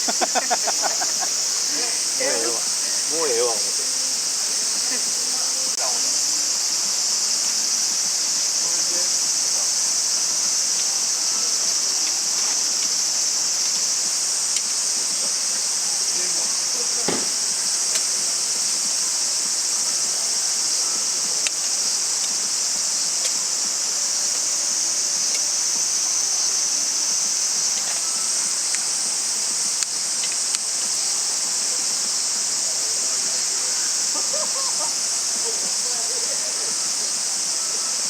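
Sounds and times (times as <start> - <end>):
high-pitched insect chorus: 0.0 - 38.0.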